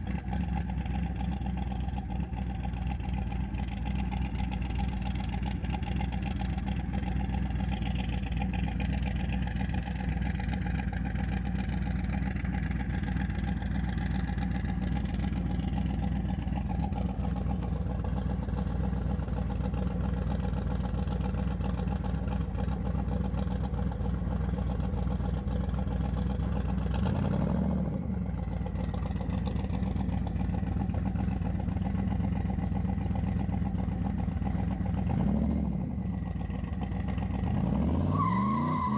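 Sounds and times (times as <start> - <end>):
pickup truck engine running: 0.0 - 35.2.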